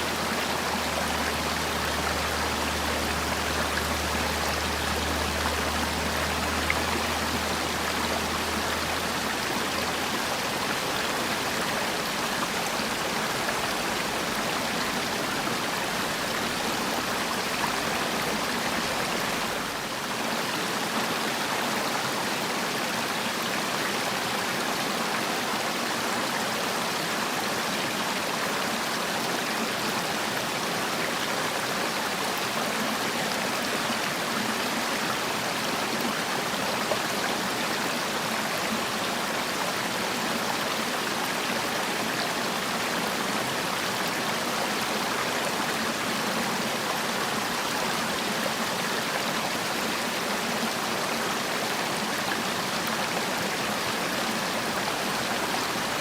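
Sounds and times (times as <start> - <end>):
stream flowing over rocks: 0.0 - 56.0.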